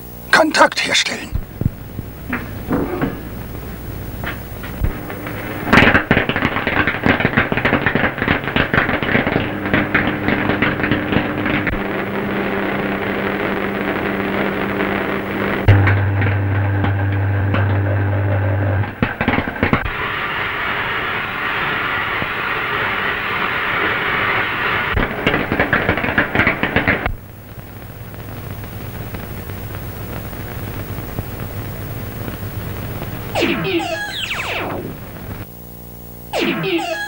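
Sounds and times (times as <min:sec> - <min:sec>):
low electrical hum: 0:00.0 - 0:23.0, 0:27.0 - 0:36.3
crackling sizzling electrical hiss: 0:00.0 - 0:37.0.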